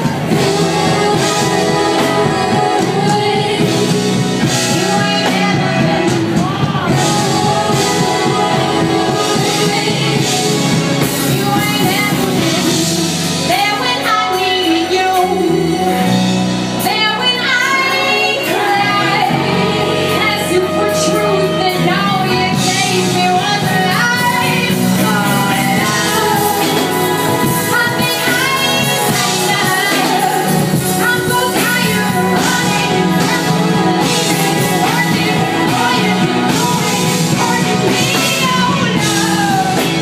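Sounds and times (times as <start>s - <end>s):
live band playing: 0.0s - 40.0s
woman singing: 0.0s - 40.0s.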